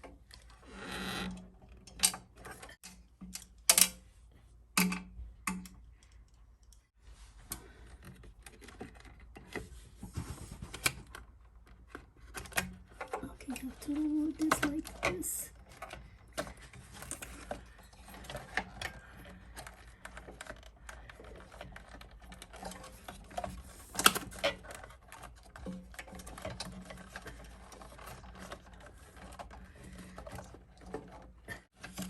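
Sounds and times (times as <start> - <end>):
plastic parts clicking and knocking: 1.2 - 4.1, 4.7 - 6.9, 7.5 - 32.0.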